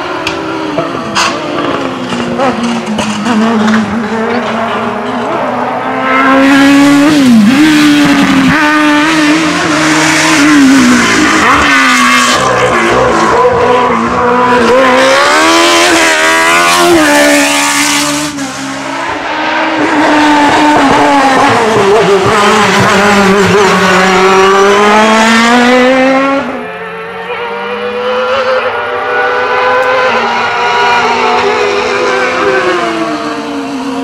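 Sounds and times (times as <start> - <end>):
race car engines revving: 0.0 - 34.0.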